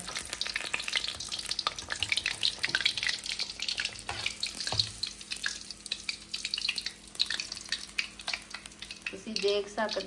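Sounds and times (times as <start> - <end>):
fish deep-frying in oil: 0.0 - 10.0.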